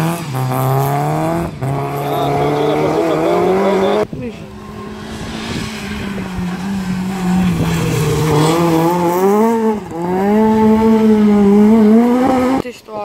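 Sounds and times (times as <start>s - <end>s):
rally car engine at high revs: 0.0s - 12.7s.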